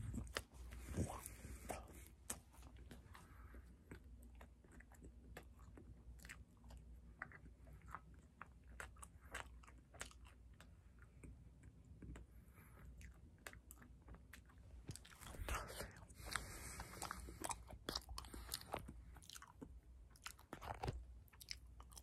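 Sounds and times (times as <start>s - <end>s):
mouth chewing sounds: 0.0s - 22.0s.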